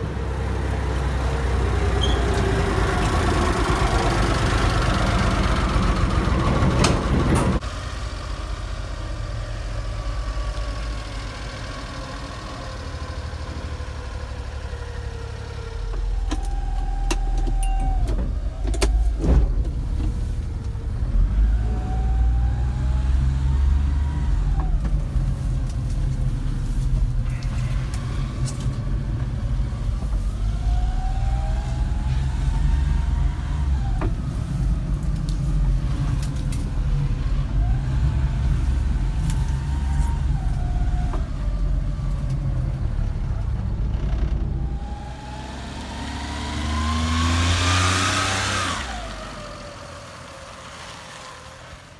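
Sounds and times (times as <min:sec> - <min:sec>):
small truck engine accelerating: 0:00.0 - 0:51.9.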